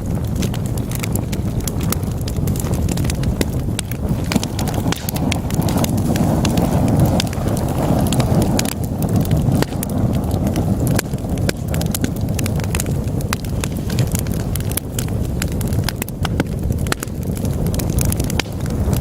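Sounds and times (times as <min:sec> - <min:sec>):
logs crackling and popping: 0:00.0 - 0:19.0
wood fire burning: 0:00.0 - 0:19.0.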